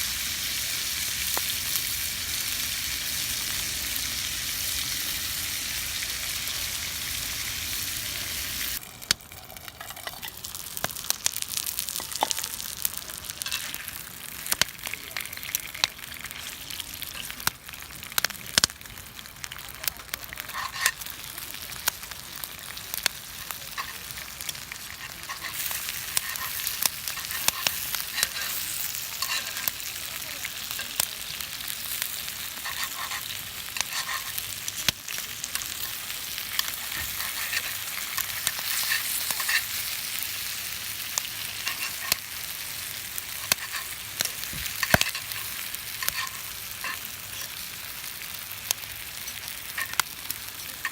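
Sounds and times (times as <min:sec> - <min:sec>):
campfire crackling and popping: 0:00.0 - 0:50.9
food sizzling: 0:00.0 - 0:50.9.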